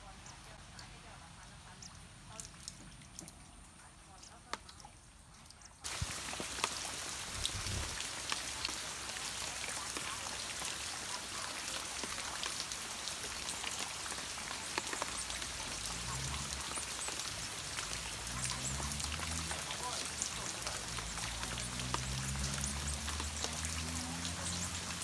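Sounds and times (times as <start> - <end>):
rain pattering on leaves: 0.0 - 25.0.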